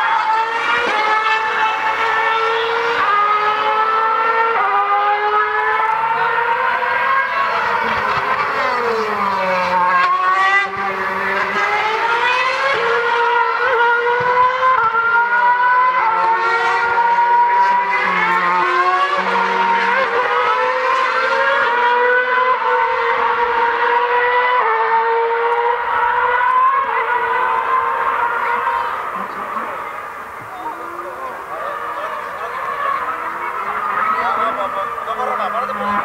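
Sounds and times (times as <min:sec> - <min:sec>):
racing car engines at high revs: 0:00.0 - 0:36.0.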